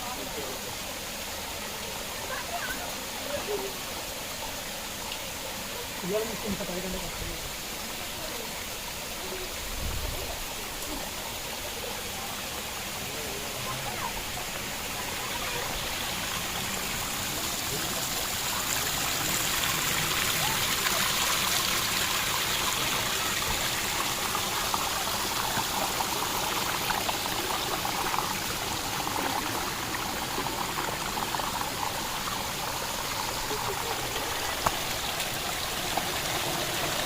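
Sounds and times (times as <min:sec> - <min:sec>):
water rushing over rocks: 0:00.0 - 0:37.0.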